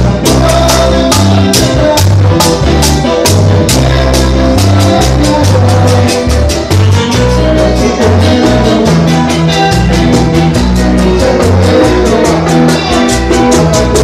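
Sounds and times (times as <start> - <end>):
live band playing dance music: 0.0 - 14.0.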